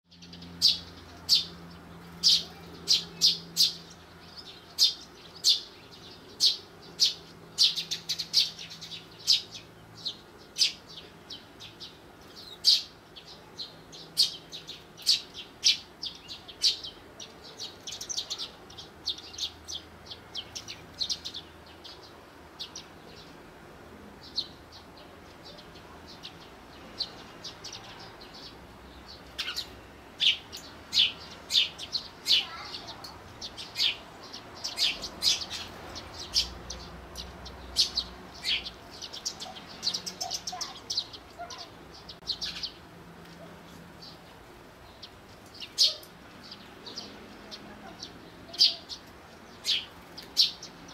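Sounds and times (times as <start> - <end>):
sparrows chirping: 0.1 - 50.9.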